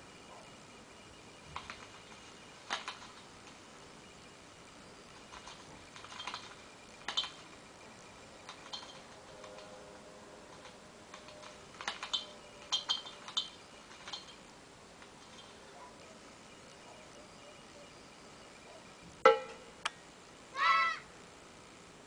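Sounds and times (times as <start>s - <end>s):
faint steady tone: 0.0s - 22.0s.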